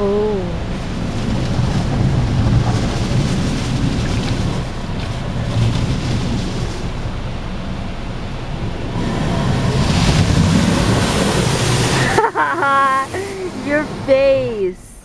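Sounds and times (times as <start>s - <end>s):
water spraying against car body: 0.0s - 13.9s.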